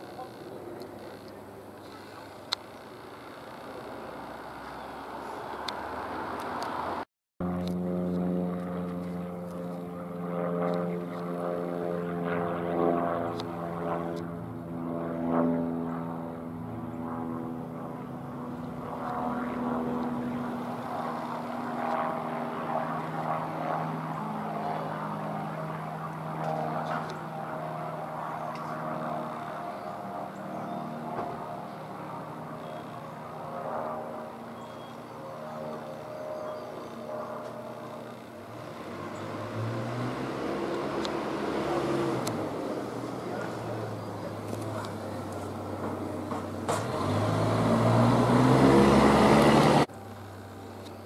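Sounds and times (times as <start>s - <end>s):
aircraft engine drone: 0.0s - 51.0s.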